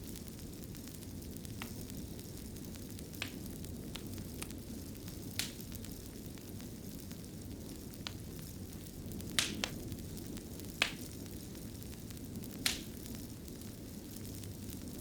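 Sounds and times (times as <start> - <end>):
fire crackling pops: 0.0 - 15.0
wood fire rumbling: 0.0 - 15.0.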